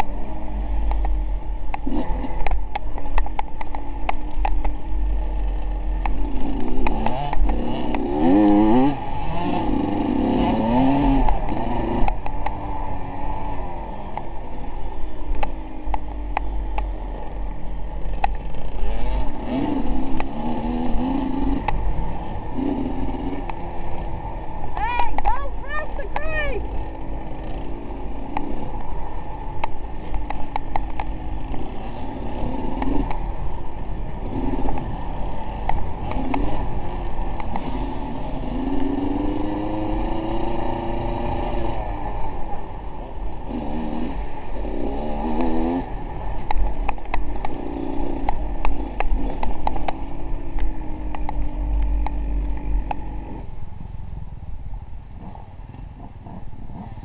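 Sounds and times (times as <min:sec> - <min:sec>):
engine revving: 0:00.0 - 0:03.7, 0:04.4 - 0:17.4, 0:18.0 - 0:53.5.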